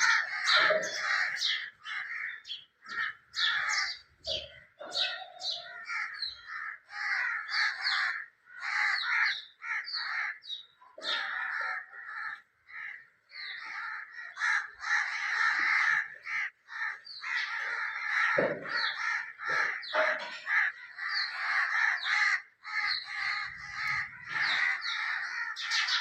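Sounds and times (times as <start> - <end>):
birds cawing harshly: 0.0 - 26.0.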